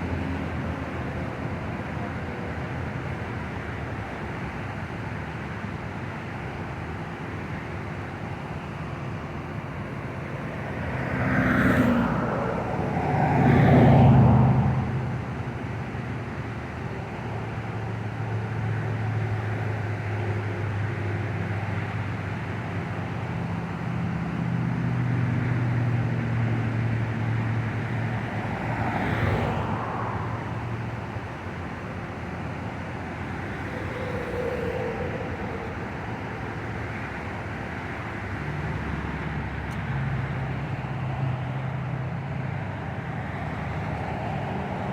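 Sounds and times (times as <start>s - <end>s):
low traffic hum: 0.0s - 44.9s
vehicles passing by: 0.0s - 44.9s.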